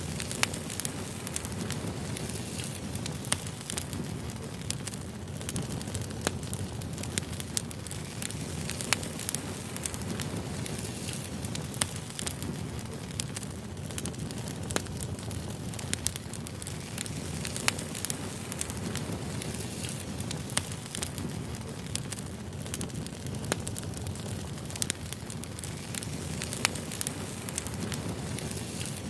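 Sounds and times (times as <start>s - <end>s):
fire burning with crackles: 0.0s - 29.0s.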